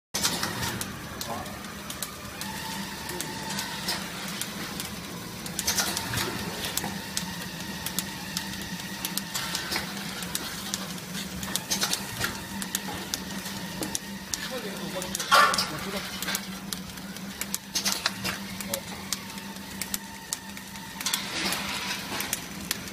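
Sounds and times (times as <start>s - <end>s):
machine motor hum: 0.2s - 22.9s
mechanical clicks and clatters: 0.2s - 22.9s.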